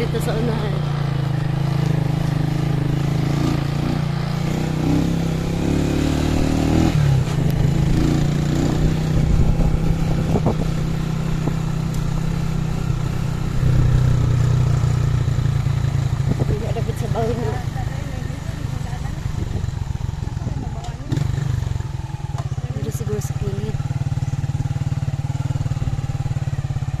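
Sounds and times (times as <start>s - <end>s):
small motorcycle engine running: 0.0s - 27.0s.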